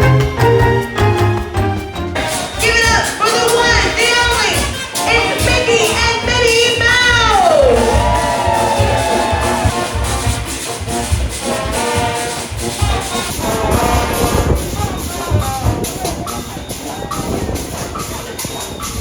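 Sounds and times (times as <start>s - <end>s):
brass band music with horns: 0.0s - 18.9s
driving drum beat: 0.0s - 19.0s.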